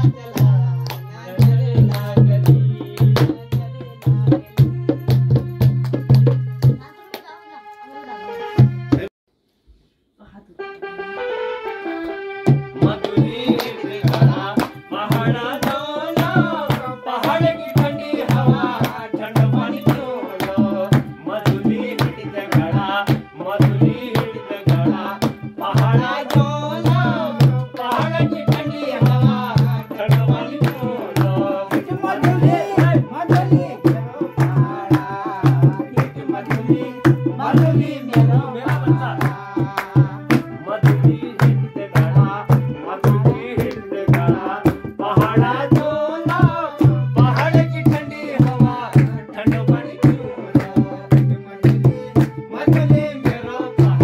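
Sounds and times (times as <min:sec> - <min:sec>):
dholak drum fast beat: 0:00.0 - 0:06.9, 0:12.5 - 0:54.0
person singing: 0:00.0 - 0:09.1, 0:10.2 - 0:54.0
electronic keyboard melody: 0:10.6 - 0:53.9.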